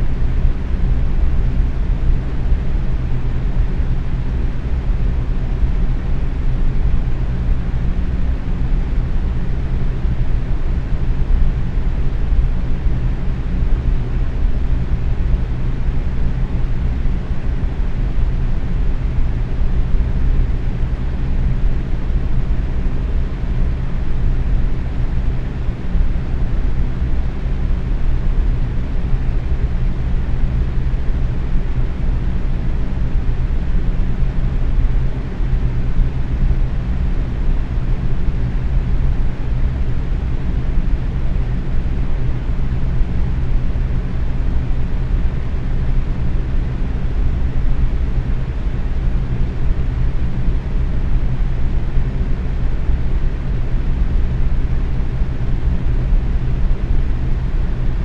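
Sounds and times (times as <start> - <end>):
fan motor hum: 0.0 - 58.0.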